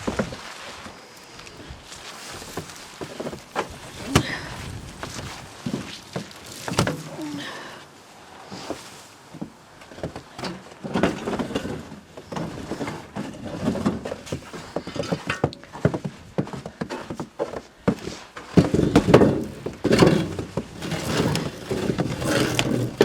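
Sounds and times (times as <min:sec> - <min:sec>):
hands knocking and rustling branches: 0:00.0 - 0:07.6, 0:08.5 - 0:23.0.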